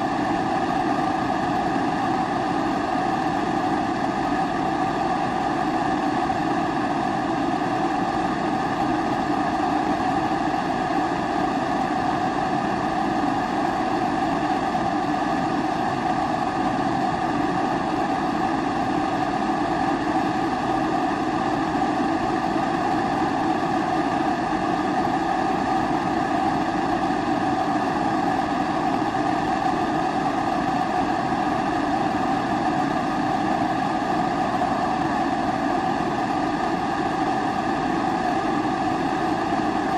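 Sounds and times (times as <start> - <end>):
pressure stove burner roaring: 0.0 - 39.9.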